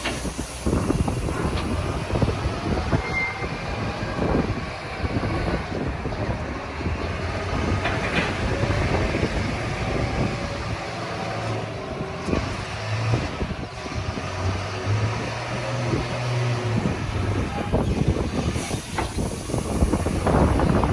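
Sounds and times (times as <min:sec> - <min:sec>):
wind blowing across microphone: 0:00.0 - 0:20.9.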